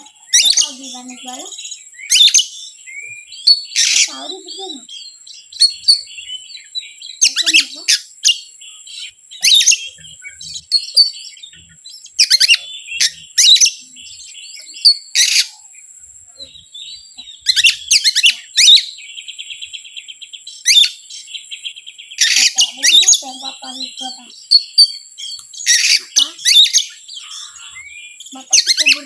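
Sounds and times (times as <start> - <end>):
bird chattering trill: 0.0 - 29.0
songbird chirping: 0.0 - 29.0.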